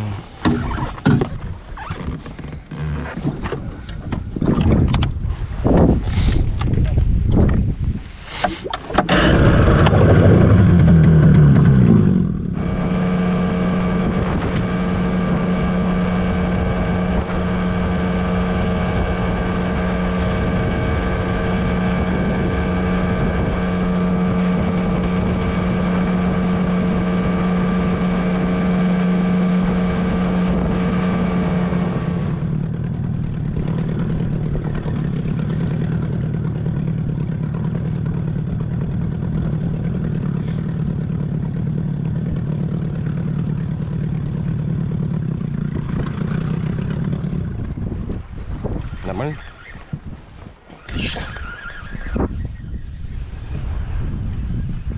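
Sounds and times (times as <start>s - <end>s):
outboard motor running: 0.0s - 7.8s, 8.4s - 52.5s.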